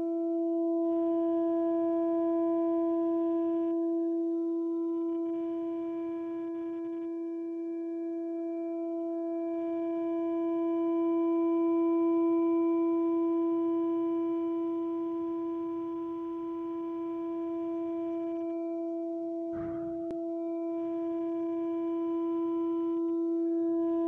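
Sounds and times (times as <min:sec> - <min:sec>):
low humming drone: 0:00.0 - 0:24.0.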